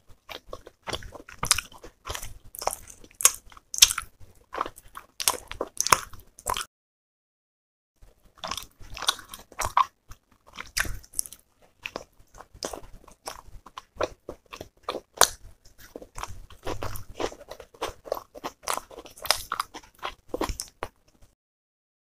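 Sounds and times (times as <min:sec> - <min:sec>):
person chewing and crunching food: 0:00.0 - 0:06.7, 0:08.0 - 0:21.4.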